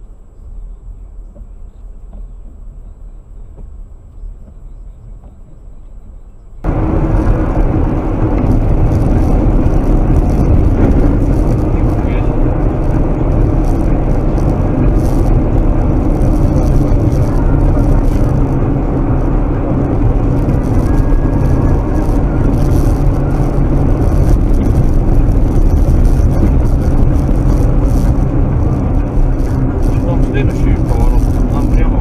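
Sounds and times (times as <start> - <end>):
car driving on snowy road: 0.0 - 32.0.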